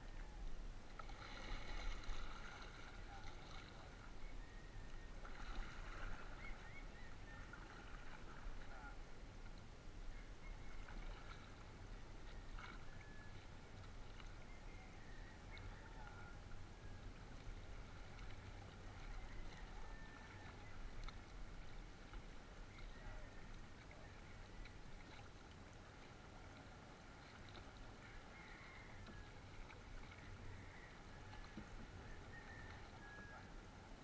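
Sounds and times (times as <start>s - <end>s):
low steady rumble: 0.0s - 34.0s
water lapping and splashing: 0.0s - 34.0s.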